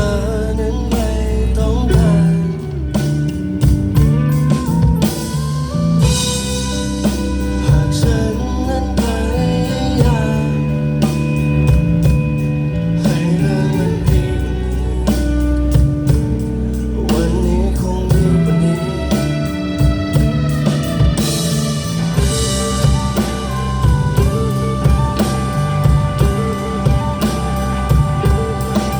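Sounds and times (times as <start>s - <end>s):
live rock band playing: 0.0s - 28.9s.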